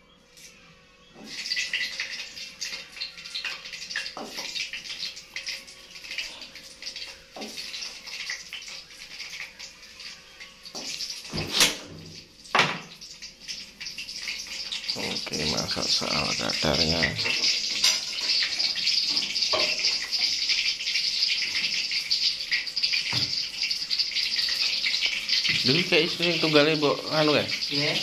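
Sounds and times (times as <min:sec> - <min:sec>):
tap water running and splashing: 0:01.2 - 0:28.0.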